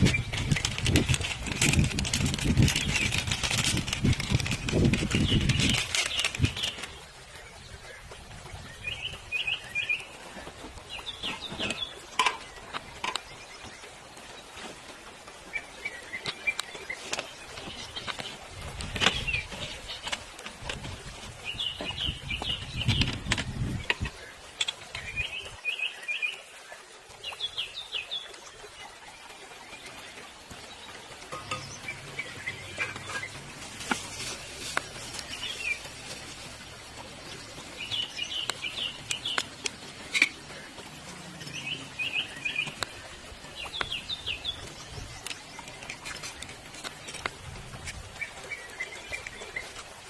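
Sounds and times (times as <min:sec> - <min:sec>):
songbird chirping: 0:04.0 - 0:50.0.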